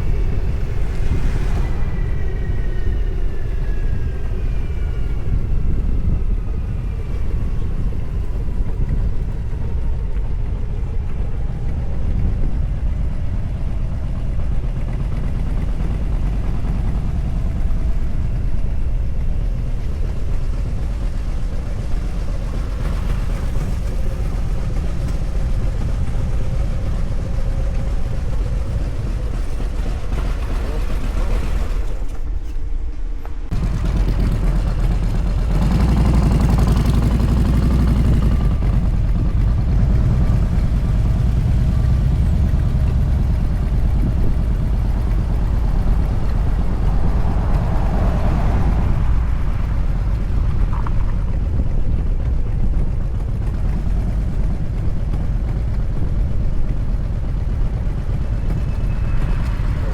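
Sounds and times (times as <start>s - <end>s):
vehicle engine and road noise: 0.0s - 59.9s
wind rushing on microphone: 0.0s - 59.9s.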